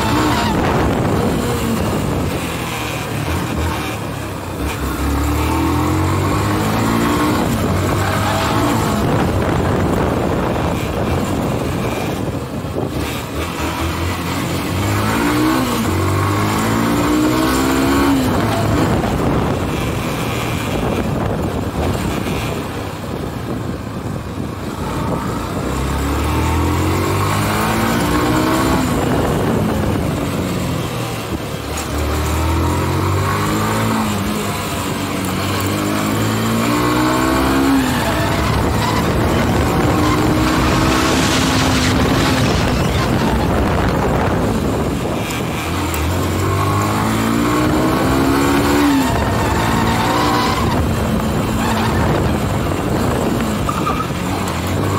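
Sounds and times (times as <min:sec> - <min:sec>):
road and wind noise: 0:00.0 - 0:54.9
vehicle engine accelerating: 0:00.0 - 0:54.9.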